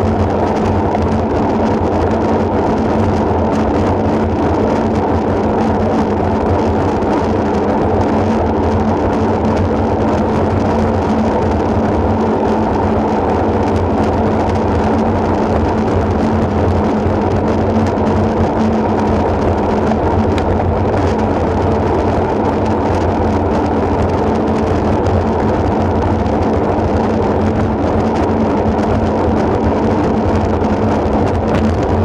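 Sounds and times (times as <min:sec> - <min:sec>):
tyre noise on asphalt: 0:00.0 - 0:32.0
wind rumble on microphone: 0:00.0 - 0:32.0.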